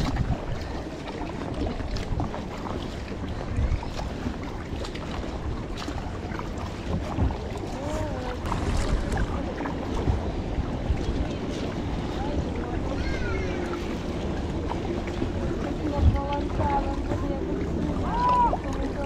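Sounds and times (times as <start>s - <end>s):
kayak paddle splashing: 0.0s - 19.0s
wind buffeting microphone: 0.0s - 19.0s.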